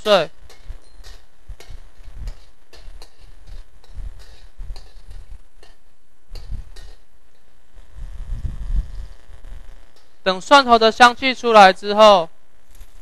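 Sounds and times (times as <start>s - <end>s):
spatula scraping a steel wok: 0.0s - 8.1s, 8.8s - 11.3s
garlic frying in oil: 0.0s - 11.8s.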